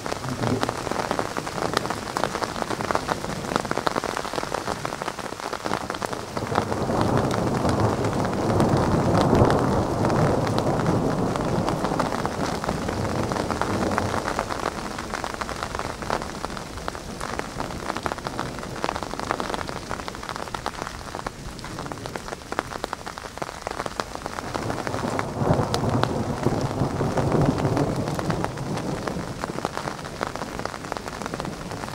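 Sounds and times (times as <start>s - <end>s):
heavy rain falling: 0.0s - 31.9s.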